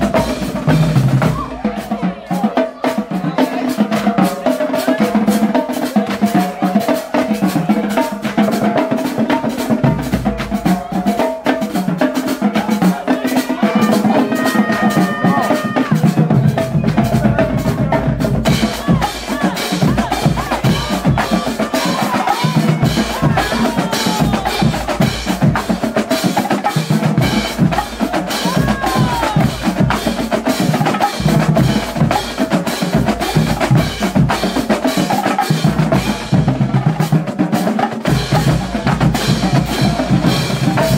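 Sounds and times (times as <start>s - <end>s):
marching bass drums: 0.0s - 40.9s
snare drums: 0.0s - 40.9s.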